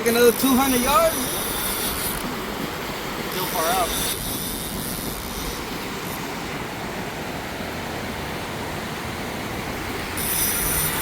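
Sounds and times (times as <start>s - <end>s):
surf rushing: 0.0s - 11.0s
wind: 0.0s - 11.0s.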